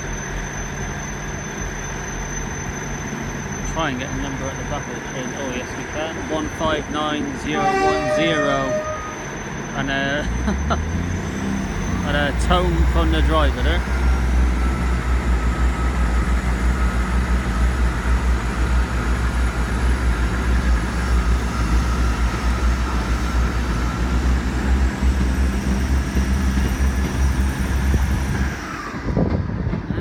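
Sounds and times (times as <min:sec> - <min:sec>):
diesel train low rumble: 0:00.0 - 0:30.0.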